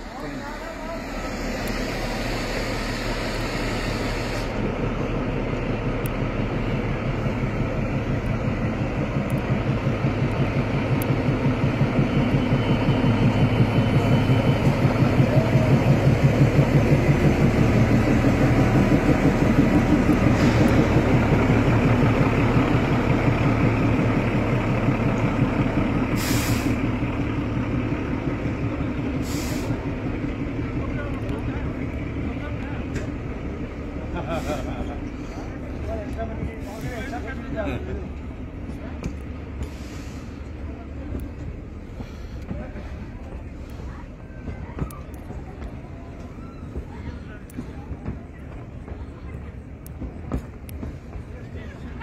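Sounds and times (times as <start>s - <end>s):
diesel locomotive engine throbbing: 0.0s - 52.0s
train coaches rolling past: 0.0s - 52.0s.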